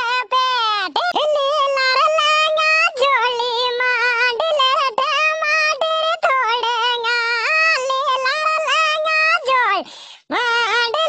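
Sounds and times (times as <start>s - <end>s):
high-pitched cartoon voice singing: 0.0s - 11.0s.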